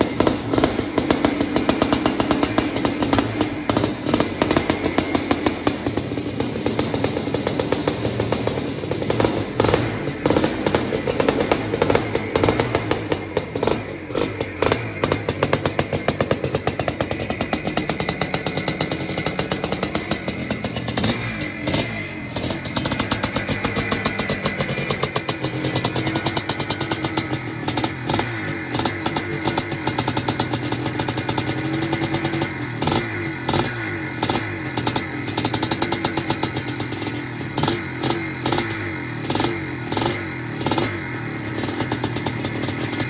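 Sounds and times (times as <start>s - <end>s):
two-stroke engine popping: 0.0s - 43.0s.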